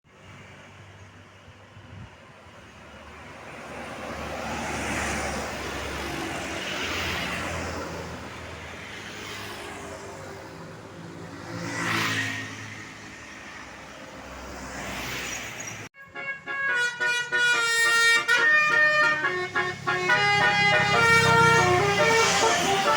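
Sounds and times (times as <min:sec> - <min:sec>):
road traffic passing: 0:00.0 - 0:22.9.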